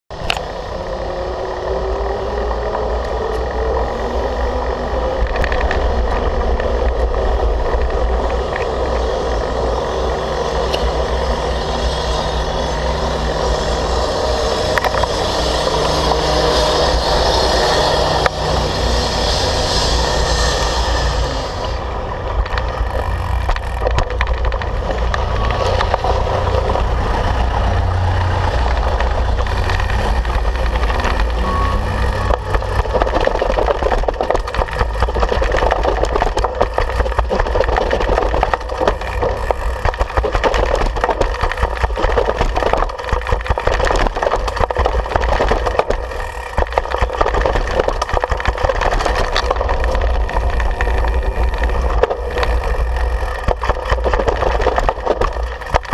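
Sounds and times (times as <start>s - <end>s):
low rumble: 0.1s - 55.9s
mountain bike rattling: 0.1s - 55.9s.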